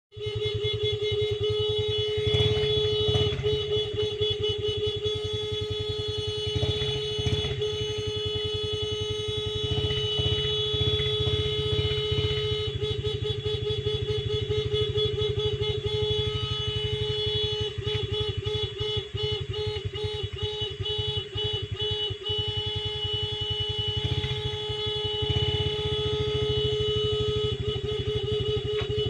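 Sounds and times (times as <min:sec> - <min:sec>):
motorcycle engine rumble: 0:00.1 - 0:29.0
motorcycle horn: 0:00.1 - 0:29.0.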